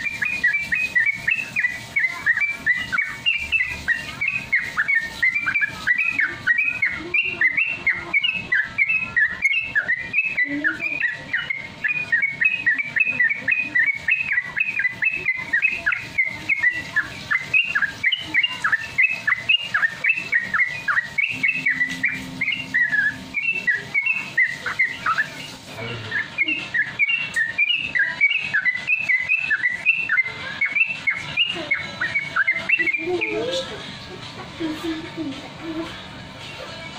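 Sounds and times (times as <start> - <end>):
bird chirping whistles: 0.0 - 33.7.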